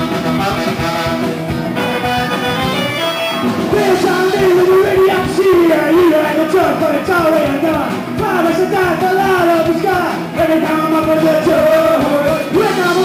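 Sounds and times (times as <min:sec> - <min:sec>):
loud electric guitars: 0:00.0 - 0:13.0
voices singing together: 0:00.0 - 0:13.0.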